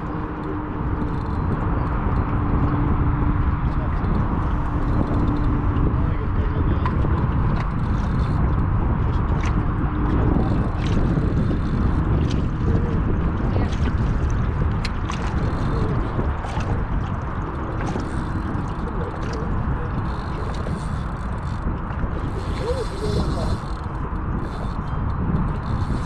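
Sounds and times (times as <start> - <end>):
water moving around boat: 0.0 - 26.0
wind noise on microphone: 0.0 - 26.0.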